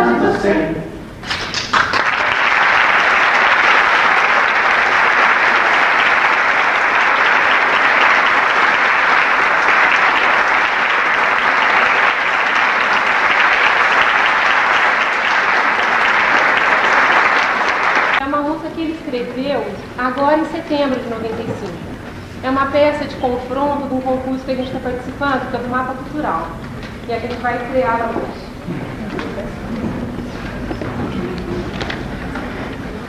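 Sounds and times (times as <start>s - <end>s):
audience applauding: 1.2s - 18.2s, 19.1s - 33.0s.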